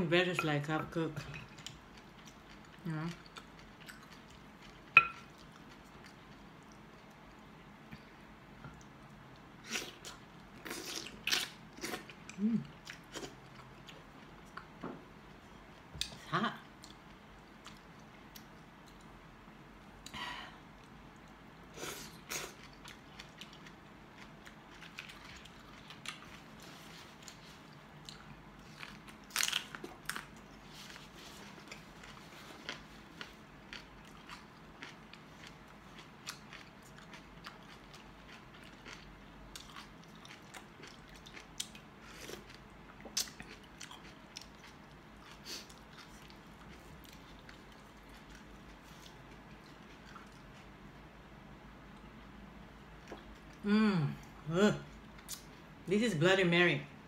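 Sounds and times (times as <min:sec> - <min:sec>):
person chewing food: 0:01.4 - 0:19.2, 0:19.9 - 0:51.0, 0:51.9 - 0:53.6.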